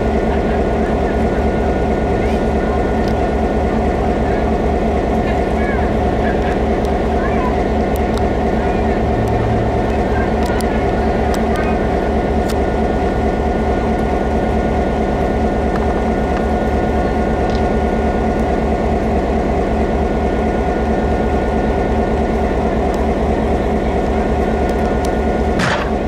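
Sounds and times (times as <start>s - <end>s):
train engine low drone: 0.0s - 26.0s.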